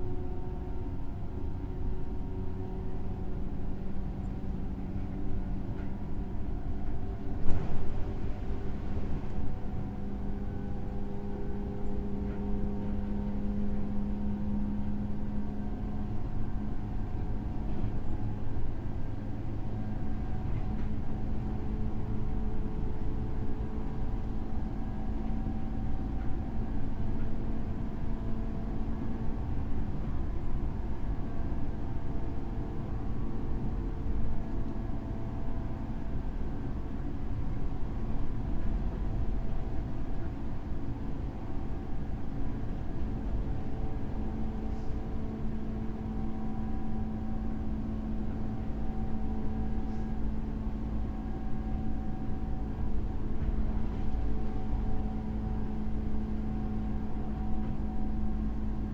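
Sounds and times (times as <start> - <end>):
wheels rumbling on rail: 0.0 - 58.9.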